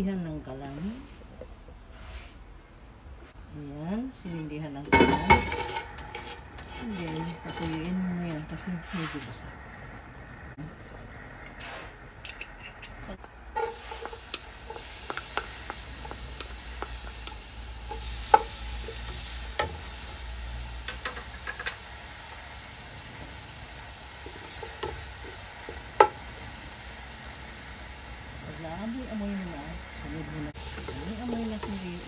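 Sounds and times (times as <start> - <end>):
hot oil sizzling in a pot: 4.3 - 9.4, 11.0 - 32.0.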